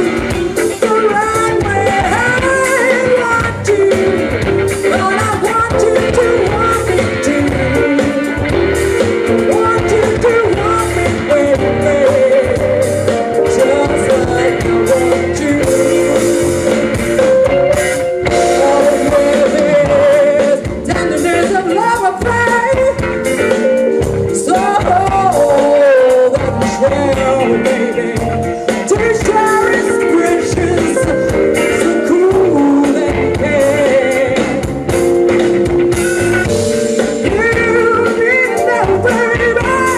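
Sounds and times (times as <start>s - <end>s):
woman singing: 0.0s - 8.5s, 9.4s - 16.8s, 18.4s - 23.0s, 24.4s - 34.7s, 37.2s - 39.9s
drum kit: 0.0s - 39.9s
electric guitars: 0.0s - 39.9s.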